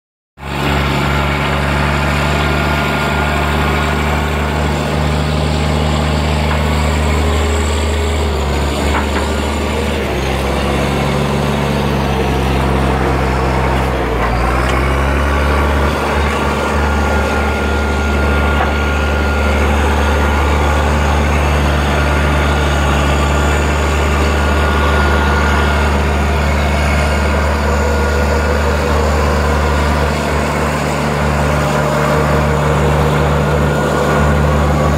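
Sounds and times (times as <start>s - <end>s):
bulldozer diesel engine under load: 0.4s - 34.9s.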